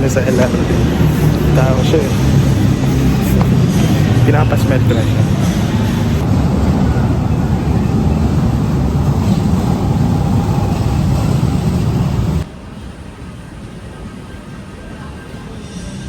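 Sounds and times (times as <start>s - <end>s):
low rumble of vehicle noise: 0.0s - 16.0s.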